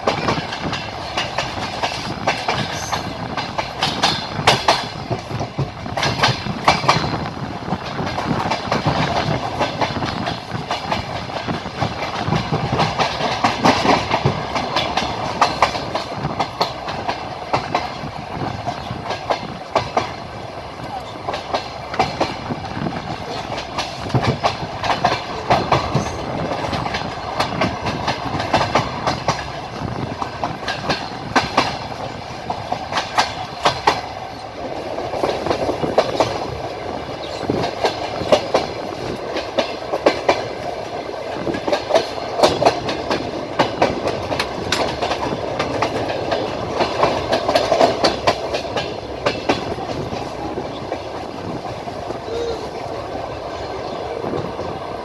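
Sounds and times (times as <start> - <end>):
train running gear rumble: 0.0 - 55.0
train wheels clacking over rail joints: 0.0 - 55.0.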